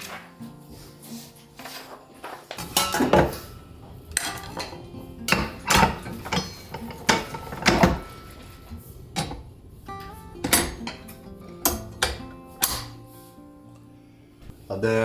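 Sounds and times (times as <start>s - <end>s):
dishes and utensils clattering: 0.0s - 14.6s.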